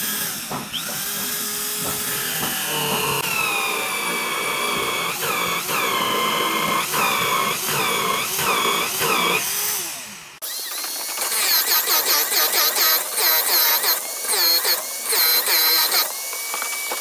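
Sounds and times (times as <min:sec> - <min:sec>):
electric drill boring into wood: 0:00.0 - 0:17.0.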